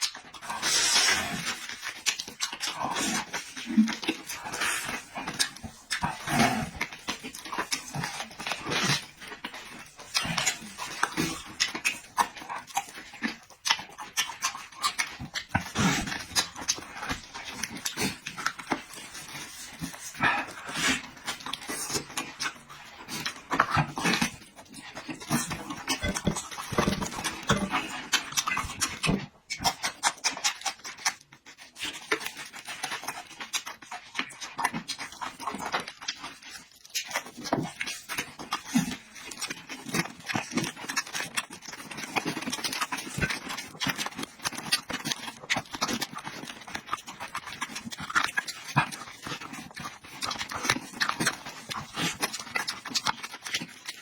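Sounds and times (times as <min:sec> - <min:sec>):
person chewing and lip-smacking: 0:00.0 - 0:54.0.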